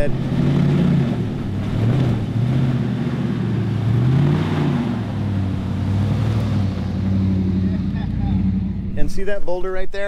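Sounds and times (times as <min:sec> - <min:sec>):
truck engine revving: 0:00.0 - 0:09.1.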